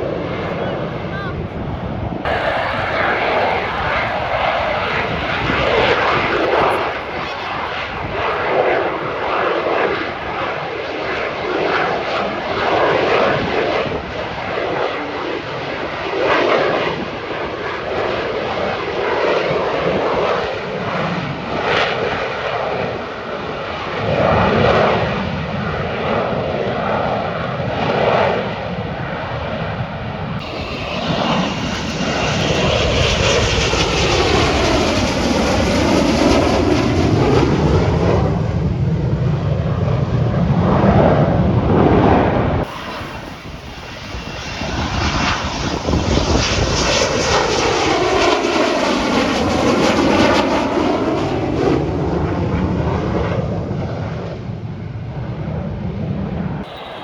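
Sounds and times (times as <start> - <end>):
aircraft engines in flight: 0.0 - 57.0.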